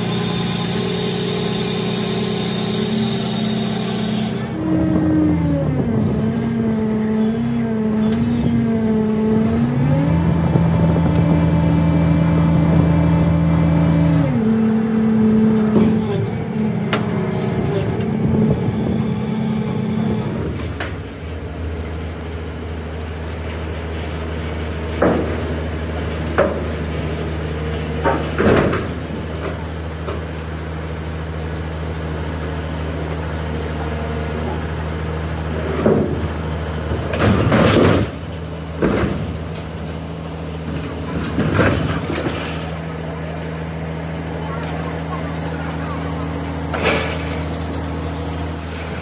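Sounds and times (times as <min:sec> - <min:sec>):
large engine idling: 0:00.0 - 0:49.0.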